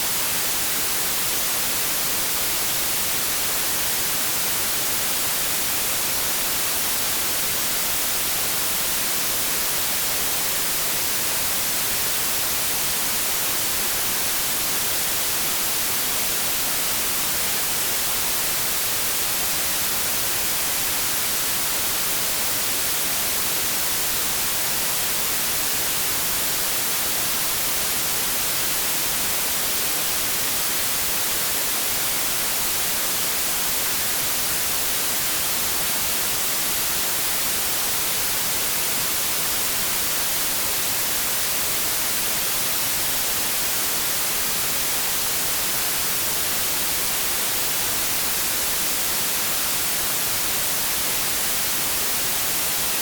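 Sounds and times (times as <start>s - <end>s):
white noise static hiss: 0.0s - 53.0s.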